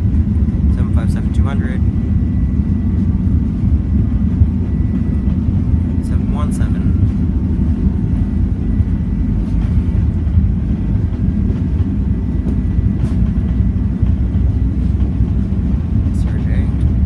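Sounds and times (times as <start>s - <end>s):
jet engines and wheels roaring: 0.0s - 17.0s.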